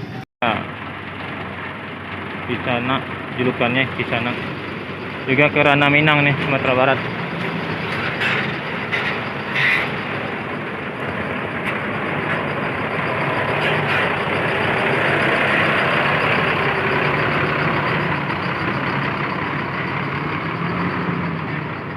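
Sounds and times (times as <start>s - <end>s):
bus engine and tyre noise: 0.0s - 21.9s.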